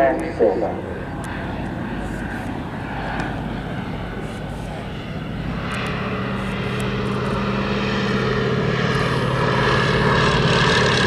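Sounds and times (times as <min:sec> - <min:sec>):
propeller plane engine in flight: 0:00.0 - 0:11.0.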